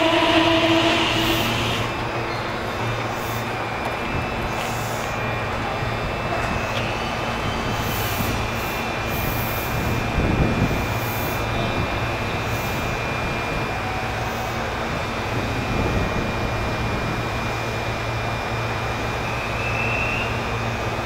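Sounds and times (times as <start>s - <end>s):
train rumble and hum: 0.0s - 21.0s.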